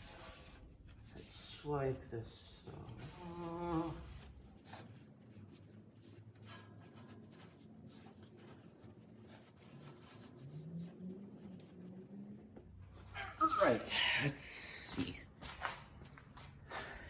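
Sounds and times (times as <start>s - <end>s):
faint rubbing and handling noises: 0.0s - 13.9s.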